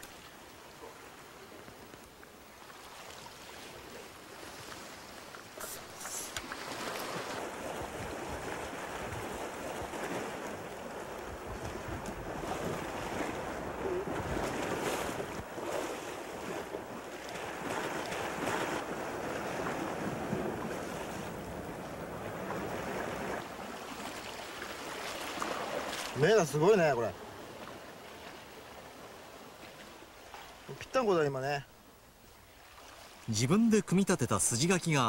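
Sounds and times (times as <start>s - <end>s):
sea surf washing on shore: 0.0s - 31.6s.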